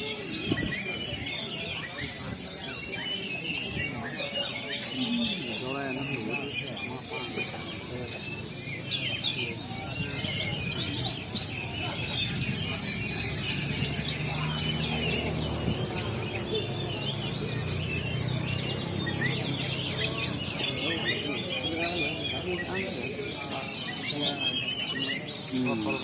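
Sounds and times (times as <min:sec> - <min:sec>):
crowd murmur: 0:00.0 - 0:26.0
songbirds chirping and trilling: 0:00.0 - 0:26.0.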